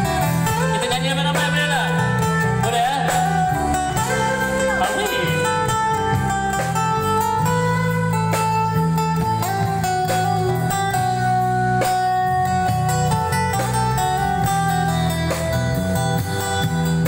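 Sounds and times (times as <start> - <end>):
guitar lead notes: 0.0 - 17.0
live band playing: 0.0 - 17.0.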